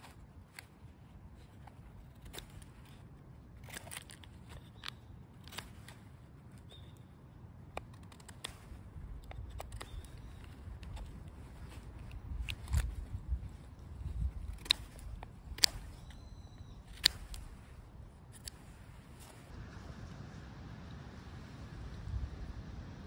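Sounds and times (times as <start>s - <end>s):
knife carving wood: 0.0s - 19.5s.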